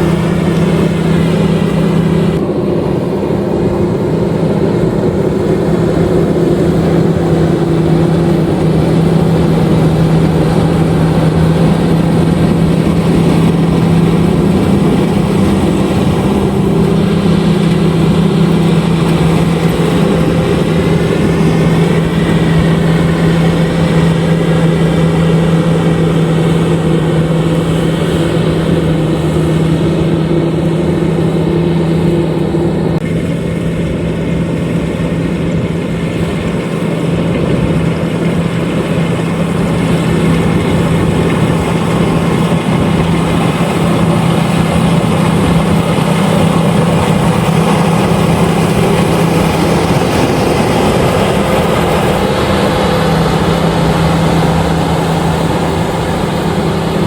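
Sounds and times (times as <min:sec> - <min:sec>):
combine harvester engine drone: 0:00.0 - 0:57.0
machinery whine: 0:00.0 - 0:57.0.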